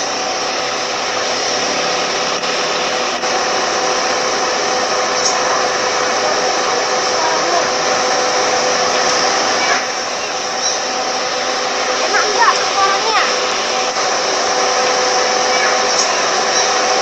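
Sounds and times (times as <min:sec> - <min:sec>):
air conditioner fan whooshing: 0:00.0 - 0:17.0.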